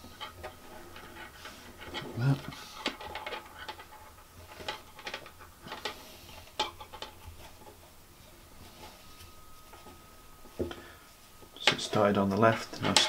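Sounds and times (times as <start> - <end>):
cord rustling and sliding: 0.0 - 13.0.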